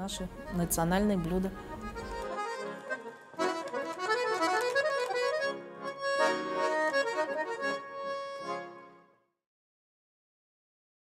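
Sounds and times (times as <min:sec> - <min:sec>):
button accordion melody: 0:00.1 - 0:09.2.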